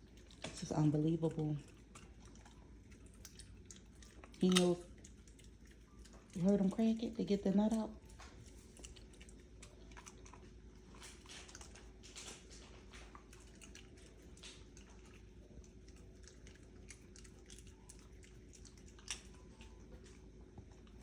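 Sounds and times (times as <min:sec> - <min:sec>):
puppy chewing seeds: 0:00.0 - 0:21.0.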